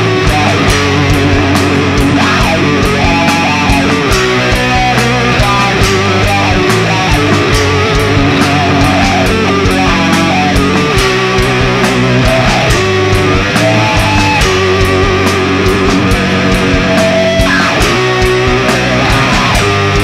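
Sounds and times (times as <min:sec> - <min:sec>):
distorted electric guitar riffing: 0:00.0 - 0:20.0
drums and cymbals: 0:00.0 - 0:20.0.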